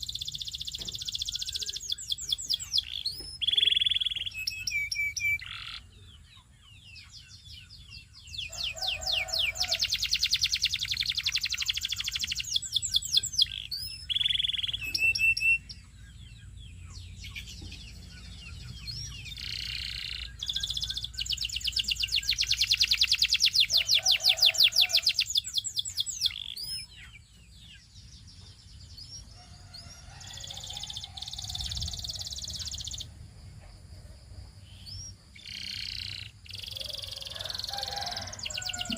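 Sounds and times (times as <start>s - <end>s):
canary trilling: 0.0s - 5.9s, 8.0s - 15.9s, 17.0s - 27.2s, 29.1s - 33.1s, 34.8s - 38.9s.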